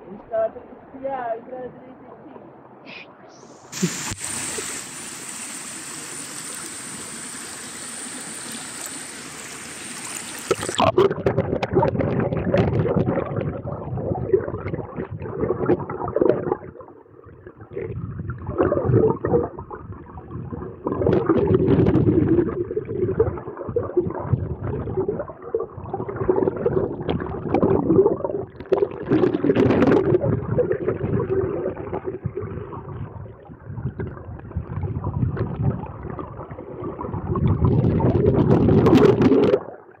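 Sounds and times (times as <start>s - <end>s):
muffled underwater river gurgling: 3.6s - 40.0s.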